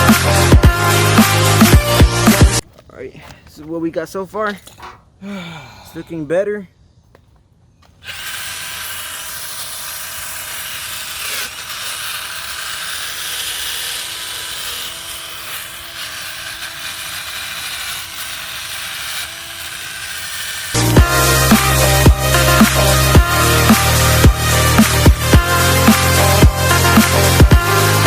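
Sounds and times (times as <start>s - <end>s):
power sander grinding rasp: 0.0s - 2.6s, 7.8s - 28.0s.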